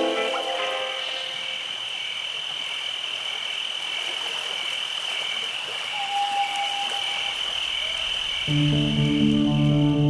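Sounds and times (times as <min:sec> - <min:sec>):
chorus of frogs calling: 0:00.0 - 0:10.0.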